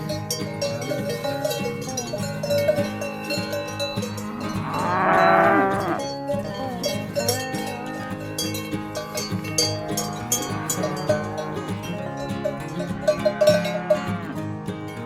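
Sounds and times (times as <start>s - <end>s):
cowbells clanking: 0.0s - 15.0s
cow mooing: 0.6s - 8.2s, 9.0s - 15.0s.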